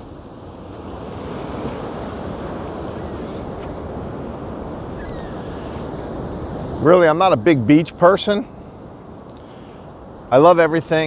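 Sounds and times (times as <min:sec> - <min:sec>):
wind buffeting microphone: 0:00.0 - 0:10.3
ocean surf washing ashore: 0:00.0 - 0:11.0.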